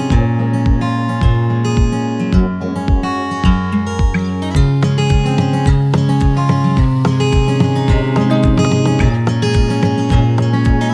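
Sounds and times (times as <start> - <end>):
strummed guitar: 0.0 - 10.9
steady thumping beat: 0.1 - 10.9.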